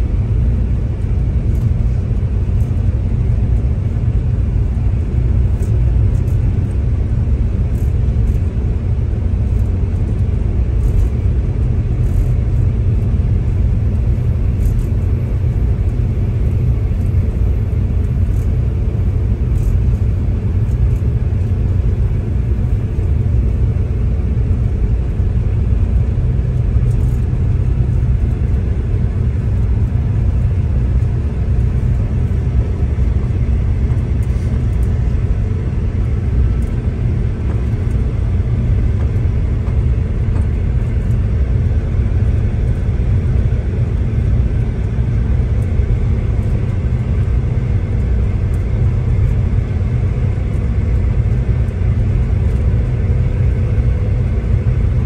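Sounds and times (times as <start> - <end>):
diesel train rumbling: 0.0 - 55.0.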